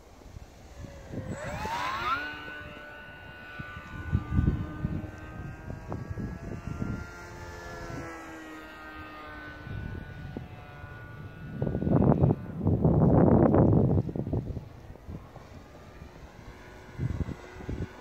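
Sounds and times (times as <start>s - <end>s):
model plane motor whine: 0.0s - 18.0s
wind buffeting microphone: 0.0s - 18.0s.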